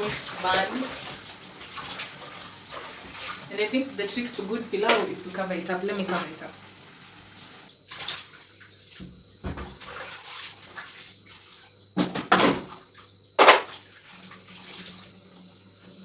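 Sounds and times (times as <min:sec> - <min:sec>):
water splashing and sloshing: 0:00.0 - 0:15.4.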